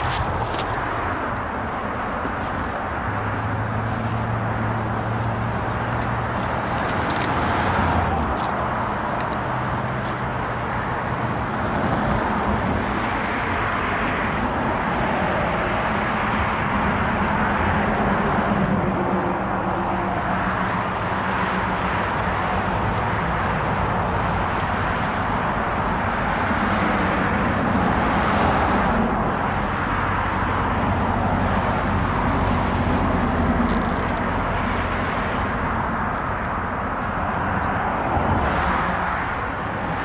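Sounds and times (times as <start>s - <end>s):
cars passing: 0.0s - 40.0s
road traffic noise: 0.0s - 40.0s.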